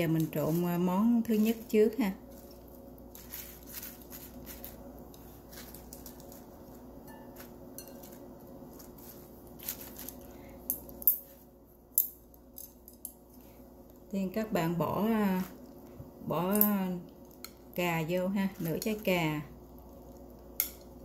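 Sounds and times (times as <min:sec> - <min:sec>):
salad leaves rustling: 0:00.0 - 0:11.6, 0:13.4 - 0:21.0
steady low hum: 0:00.0 - 0:21.0.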